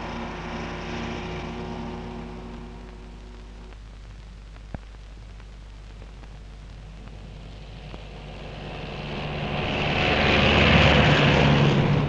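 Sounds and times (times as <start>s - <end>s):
film hiss: 0.0s - 12.0s
low hum: 0.0s - 12.0s.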